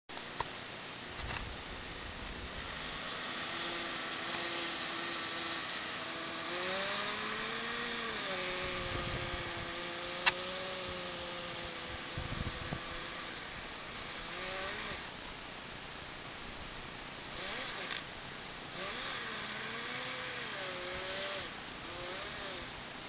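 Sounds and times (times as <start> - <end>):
small engine buzzing: 1.0 - 15.2, 17.2 - 22.9.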